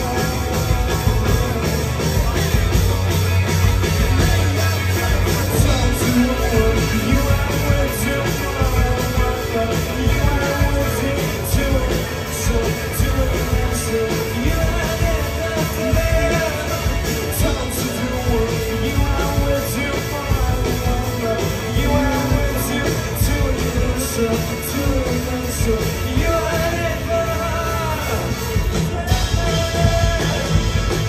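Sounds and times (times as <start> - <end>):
man singing into microphone: 0.0 - 2.3, 4.2 - 30.6
rock band playing live: 0.0 - 31.0.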